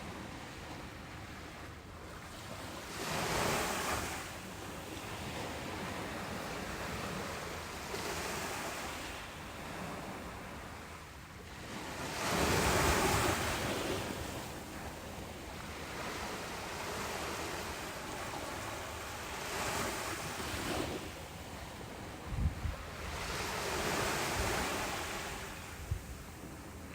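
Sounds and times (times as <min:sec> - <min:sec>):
ocean surf washing on beach: 0:00.0 - 0:26.9.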